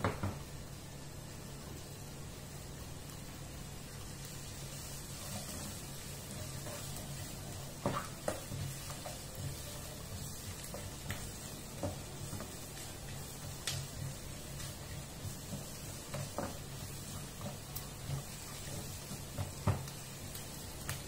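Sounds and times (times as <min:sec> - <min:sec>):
vegetables sizzling in butter: 0:00.0 - 0:21.0.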